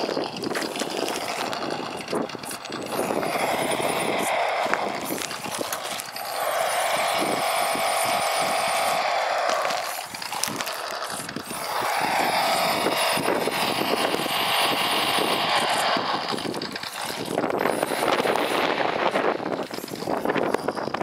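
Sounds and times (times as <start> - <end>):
driving over dirt and twigs: 0.0 - 21.0
electric drive whining: 0.0 - 21.0
simulated truck engine sound: 0.0 - 21.0.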